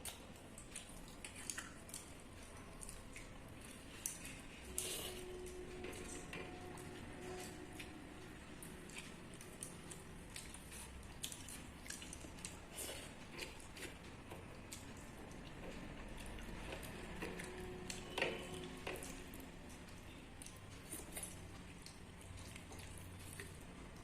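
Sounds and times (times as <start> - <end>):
wet chewing and lip smacks: 0.0 - 5.2, 6.8 - 24.0.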